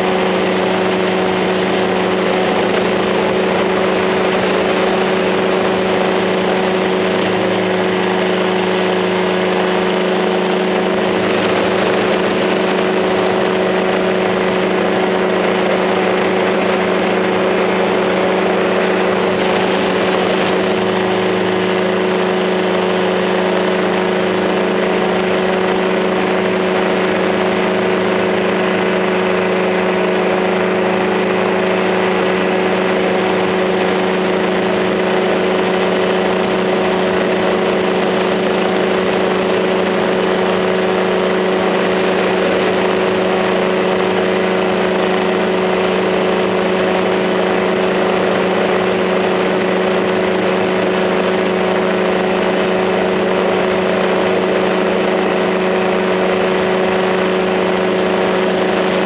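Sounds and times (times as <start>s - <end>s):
drone motors humming: 0.0s - 59.0s.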